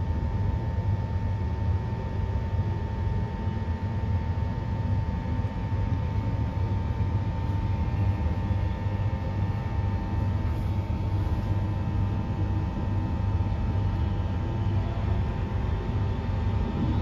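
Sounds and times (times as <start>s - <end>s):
high-pitched hum: 0.0s - 17.0s
train carriage low rumble: 0.0s - 17.0s.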